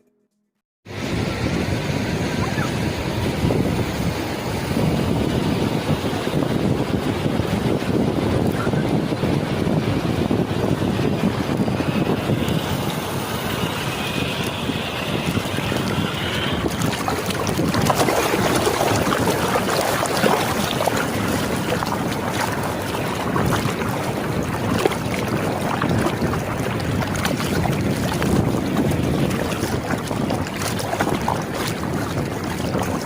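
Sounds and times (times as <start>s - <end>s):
wind buffeting microphone: 0.9s - 33.0s.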